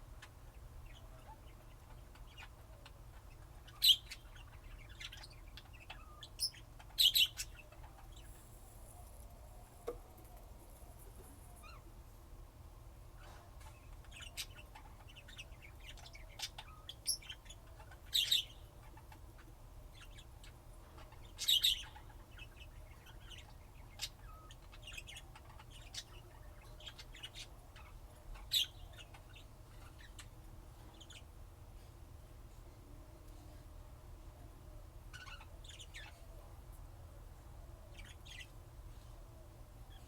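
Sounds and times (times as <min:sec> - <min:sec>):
lovebirds chirping: 0:00.0 - 0:12.0, 0:13.2 - 0:31.9, 0:34.3 - 0:36.7, 0:37.7 - 0:40.0.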